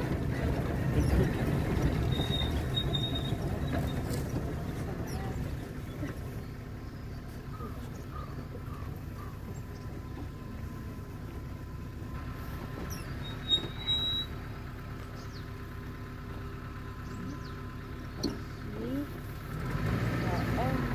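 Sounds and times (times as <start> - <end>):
engine idling: 0.0 - 20.9.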